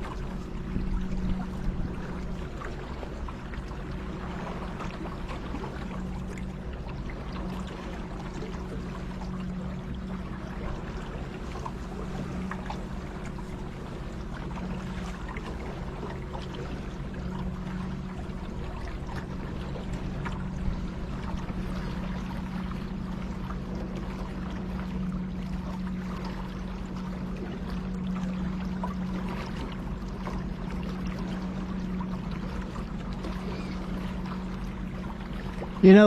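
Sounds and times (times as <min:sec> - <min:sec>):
boat motor humming: 0:00.0 - 0:36.0
water splashing along hull: 0:00.0 - 0:36.0.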